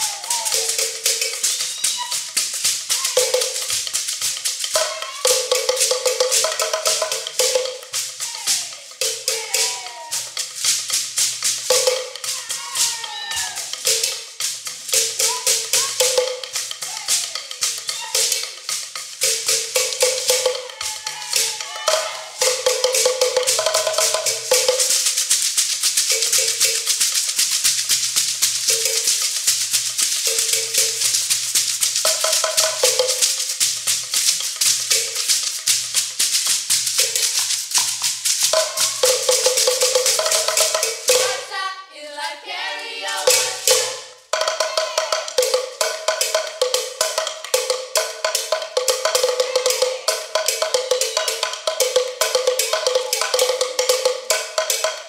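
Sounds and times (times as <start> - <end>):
gourd shakers rattling: 0.0 - 55.0
pitched drum pattern: 0.0 - 55.0.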